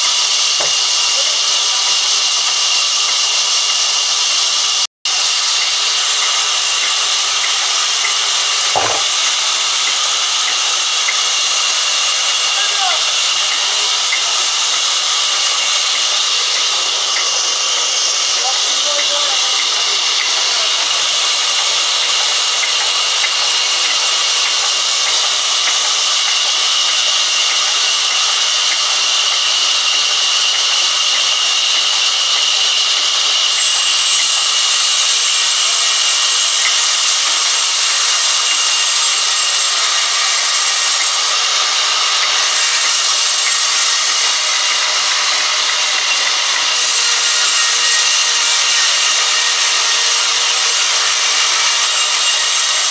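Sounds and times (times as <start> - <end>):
band saw cutting log: 0.0 - 52.9.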